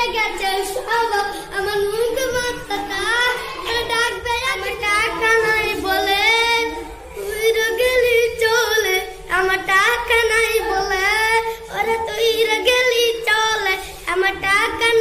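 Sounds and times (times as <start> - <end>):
boy singing unaccompanied: 0.0 - 15.0.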